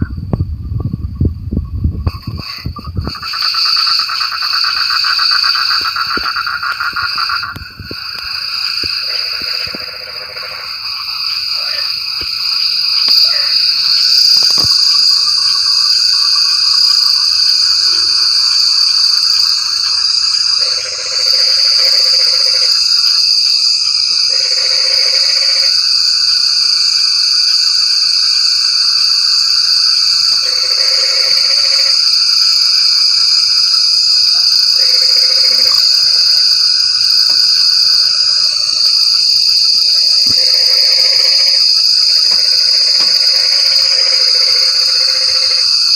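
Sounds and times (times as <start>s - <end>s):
high-pitched insect drone: 0.0s - 45.9s
frogs calling: 1.6s - 45.9s.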